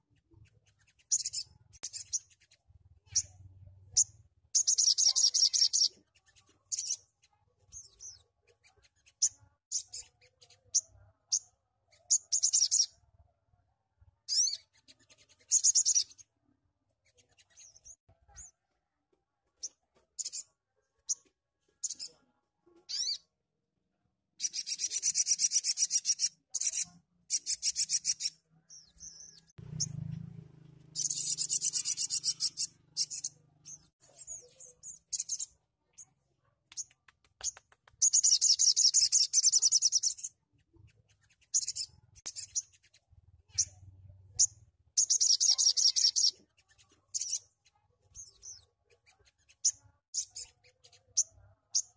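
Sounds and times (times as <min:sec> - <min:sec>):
bird chirps: 0:00.0 - 0:13.0, 0:14.2 - 0:16.3, 0:17.0 - 0:18.6, 0:19.5 - 0:23.4, 0:24.4 - 0:51.9.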